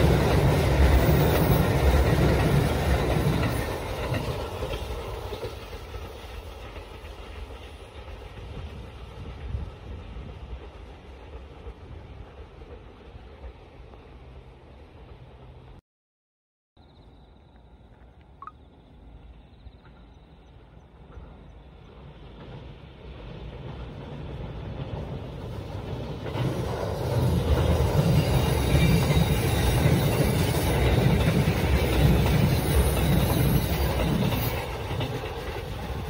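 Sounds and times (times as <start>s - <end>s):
train running on rails: 0.0s - 15.8s, 16.9s - 36.0s.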